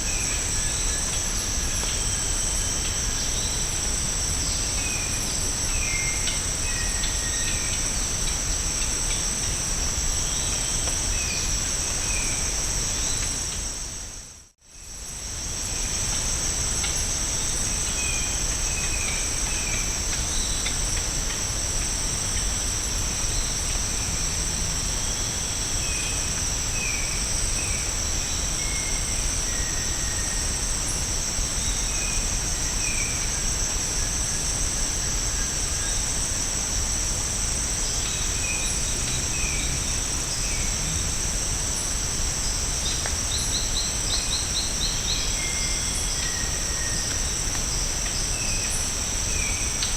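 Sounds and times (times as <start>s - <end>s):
insect chorus: 0.0s - 49.9s.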